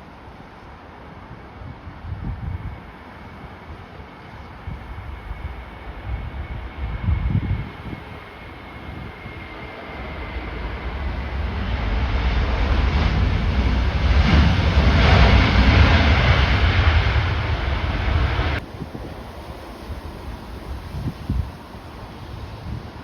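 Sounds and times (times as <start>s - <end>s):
jet engine roar: 0.0s - 23.0s
wind buffeting microphone: 1.2s - 23.0s.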